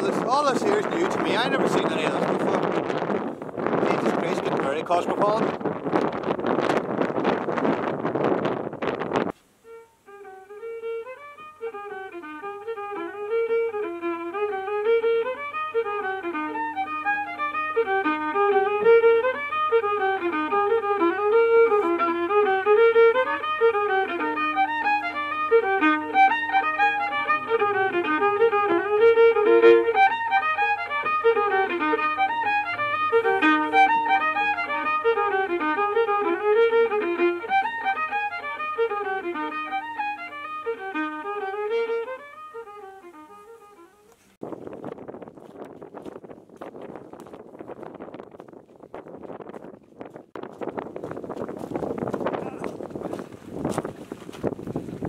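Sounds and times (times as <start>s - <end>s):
fiddle playing a tune: 0.0s - 55.0s.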